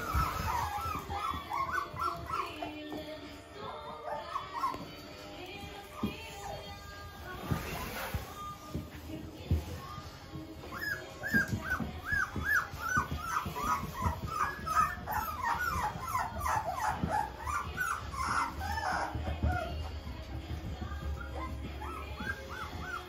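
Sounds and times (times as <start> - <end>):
puppies whining and squealing: 0.0 - 23.0.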